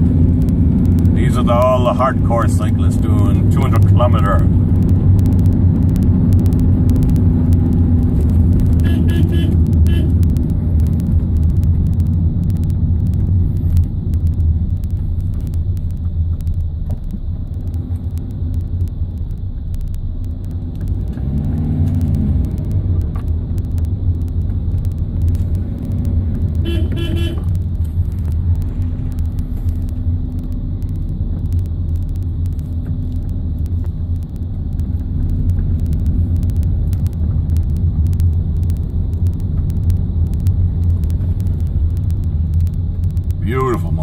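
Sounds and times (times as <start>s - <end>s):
van engine and road drone: 0.0s - 44.0s.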